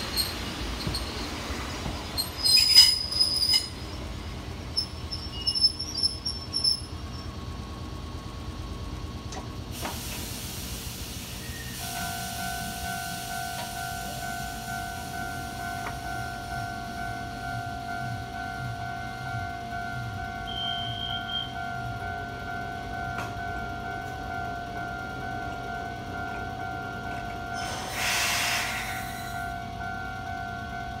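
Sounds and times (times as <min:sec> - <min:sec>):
train wheels squealing on rails: 0:00.0 - 0:08.2, 0:09.4 - 0:31.0.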